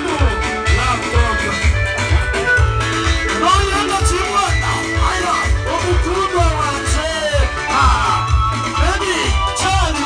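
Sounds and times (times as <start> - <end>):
amplified backing music with bass: 0.0 - 10.0.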